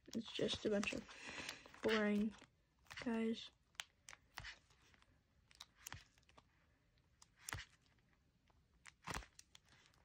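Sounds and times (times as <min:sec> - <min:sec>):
plastic sleeve pages turning: 0:00.1 - 0:08.2, 0:08.8 - 0:10.0.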